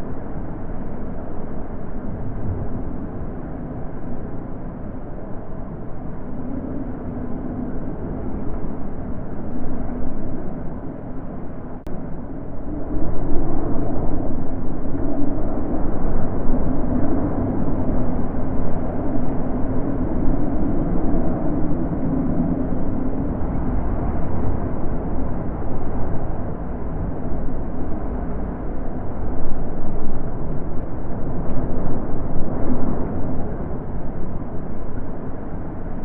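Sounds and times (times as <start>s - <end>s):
wind blowing in gusts: 0.0s - 36.0s.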